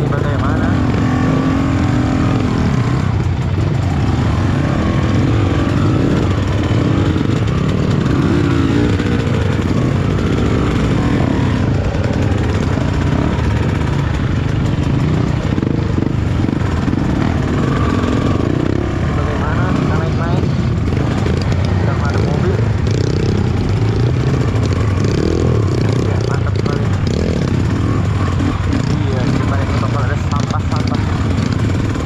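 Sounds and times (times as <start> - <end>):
motorcycle engine running: 0.0 - 32.0
rush of noise: 0.0 - 32.0.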